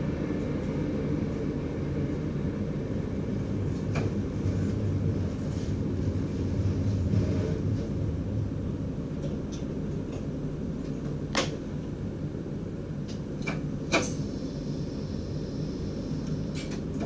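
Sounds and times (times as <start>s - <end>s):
low hum in train cab: 0.0s - 17.0s.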